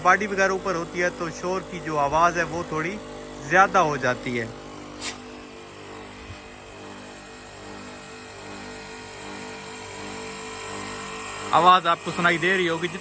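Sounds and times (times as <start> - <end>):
compressor mechanical hum: 0.0 - 13.0.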